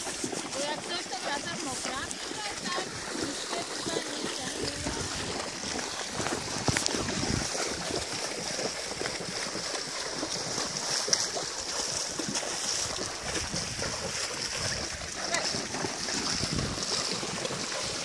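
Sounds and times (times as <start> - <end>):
hooves splashing in water: 0.0 - 18.0.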